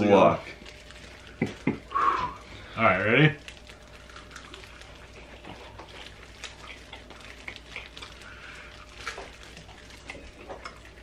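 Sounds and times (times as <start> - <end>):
chewing and lip-smacking: 0.4 - 2.7, 3.3 - 11.0.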